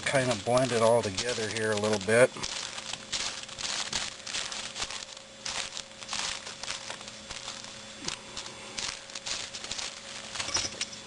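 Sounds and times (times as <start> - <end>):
hands mixing raw meat: 0.0 - 11.0
tin foil crinkling: 0.0 - 11.0.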